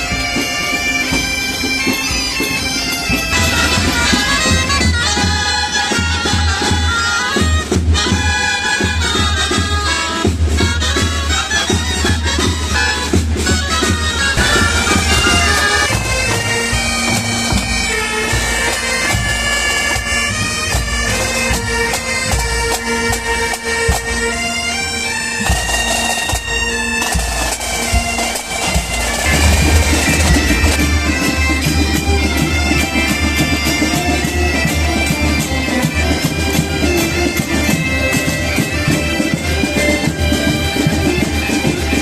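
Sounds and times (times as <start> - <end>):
bagpipes playing a tune: 0.0 - 42.0.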